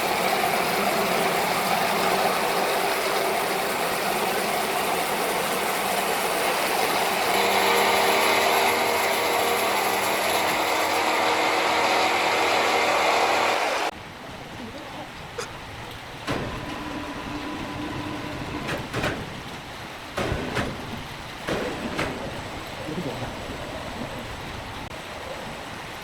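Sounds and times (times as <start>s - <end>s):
machinery rattling: 0.0s - 13.9s, 16.2s - 24.9s
steady humming tones: 0.0s - 26.0s.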